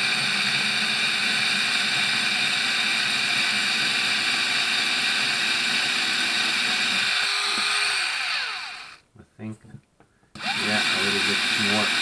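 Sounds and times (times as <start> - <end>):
cordless drill boring into plastic: 0.0 - 9.0, 10.4 - 12.0.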